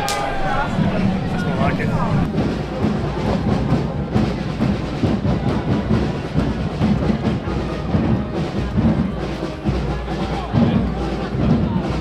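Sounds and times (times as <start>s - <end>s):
marching drums: 0.0s - 12.0s.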